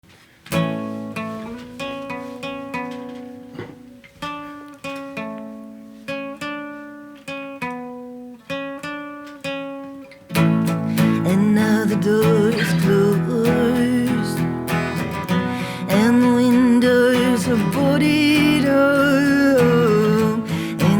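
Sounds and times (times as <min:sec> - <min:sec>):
guitar plucking notes and chords: 0:00.5 - 0:20.9.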